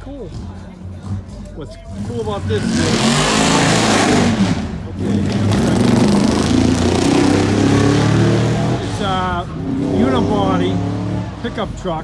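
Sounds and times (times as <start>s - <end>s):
vehicle engine running loudly: 0.0s - 12.0s.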